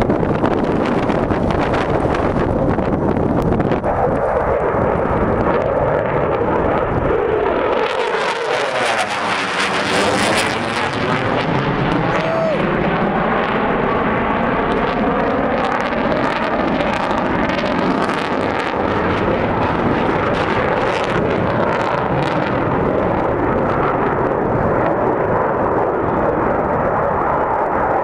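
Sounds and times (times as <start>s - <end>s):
fighter jet engines roaring: 0.0s - 28.0s.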